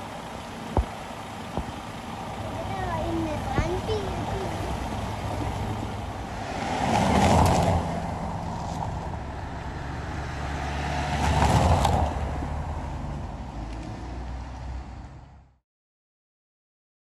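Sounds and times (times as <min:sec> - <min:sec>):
cars passing close: 0:00.0 - 0:15.6
low steady engine hum: 0:00.0 - 0:15.6.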